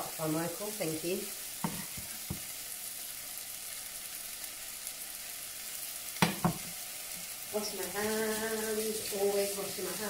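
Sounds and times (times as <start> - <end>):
vegetables sizzling in pots: 0.0 - 10.0.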